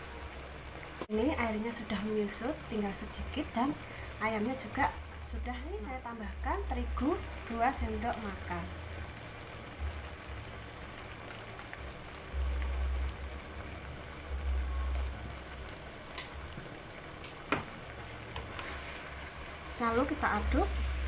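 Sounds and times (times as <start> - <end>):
liquid bubbling and sizzling in wok: 0.0 - 21.0.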